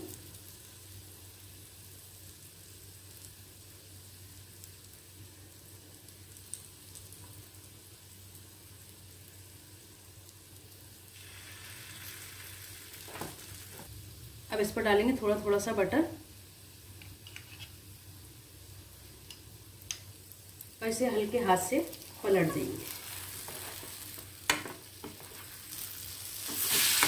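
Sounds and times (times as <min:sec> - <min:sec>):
bread sizzling in a pan: 0:00.0 - 0:27.0.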